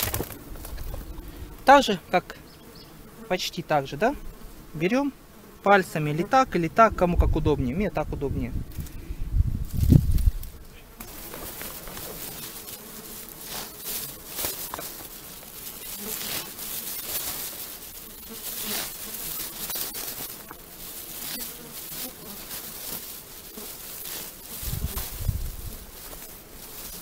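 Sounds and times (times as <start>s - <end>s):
leaves and stems rustling: 0.0s - 4.4s, 8.6s - 27.0s
insects buzzing: 0.0s - 27.0s.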